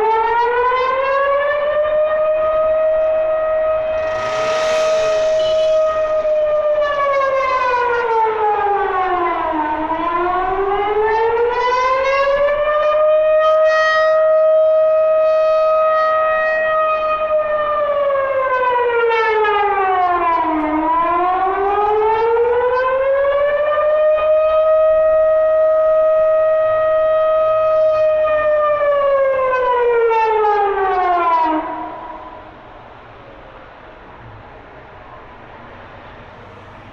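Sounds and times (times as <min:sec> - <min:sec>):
warning siren wailing: 0:00.0 - 0:32.6.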